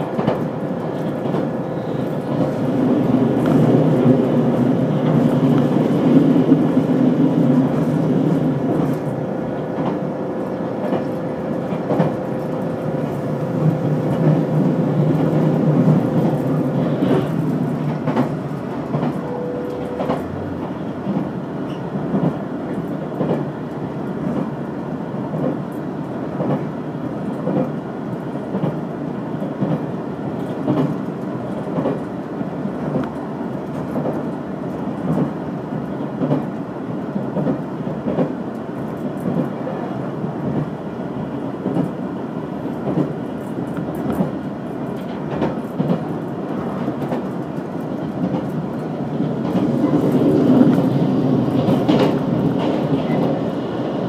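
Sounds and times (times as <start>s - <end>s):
rail joint clicks: 0.0s - 40.8s, 41.4s - 54.0s
train wheels rumbling on rail: 0.0s - 54.0s.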